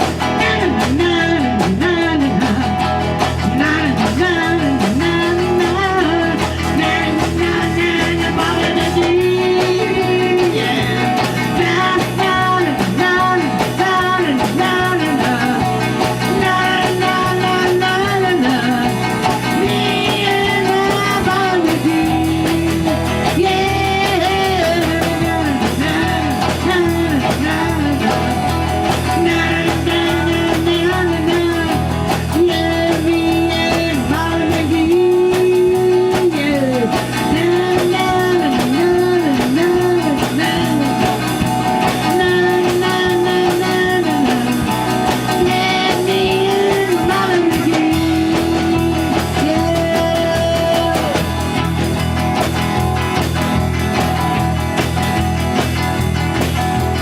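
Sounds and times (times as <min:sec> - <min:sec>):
electric guitar: 0:00.0 - 0:57.0
rock band playing blues: 0:00.0 - 0:57.0.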